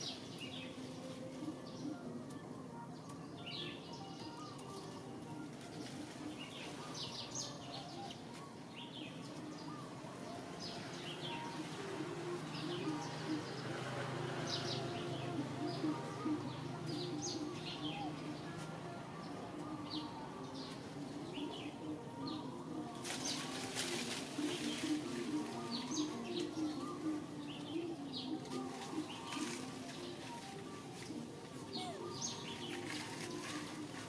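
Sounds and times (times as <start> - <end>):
wild birds chirping: 0.0 - 34.0.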